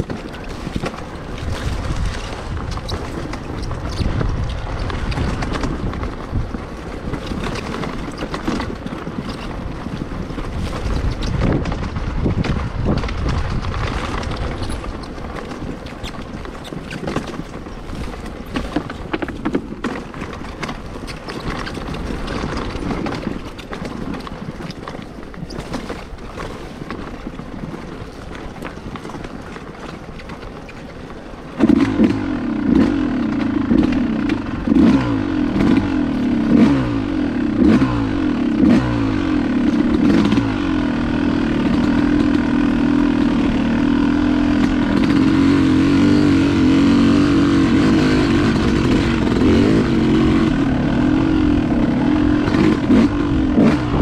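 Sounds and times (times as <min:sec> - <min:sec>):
bike knocks and rattles: 0:00.0 - 0:54.0
dirt bike engine running: 0:00.0 - 0:54.0
wind buffeting microphone: 0:00.0 - 0:54.0.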